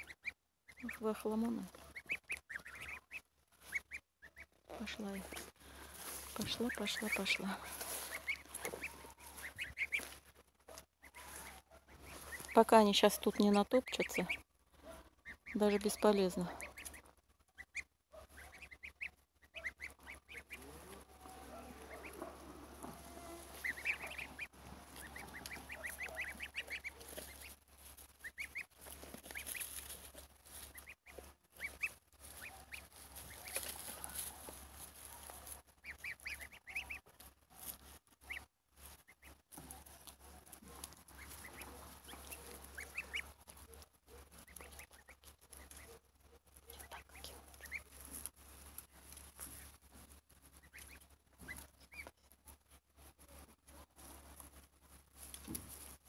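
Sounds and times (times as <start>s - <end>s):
goslings peeping: 0.0s - 56.0s.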